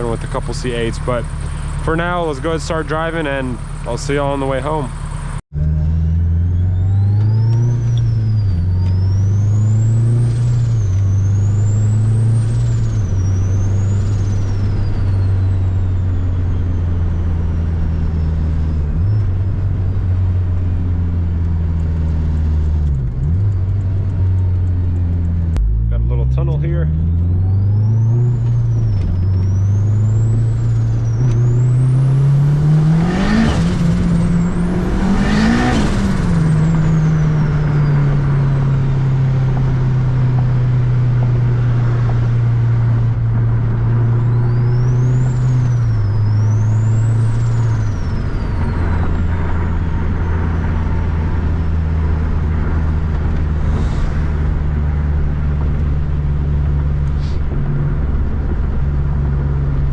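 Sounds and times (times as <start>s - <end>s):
car engine revving in tunnel: 0.0s - 59.9s
turbo whine: 0.0s - 59.9s.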